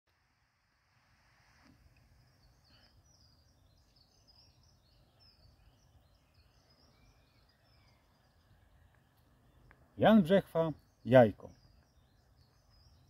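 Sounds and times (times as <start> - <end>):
faint songbird chirping: 1.6 - 13.0.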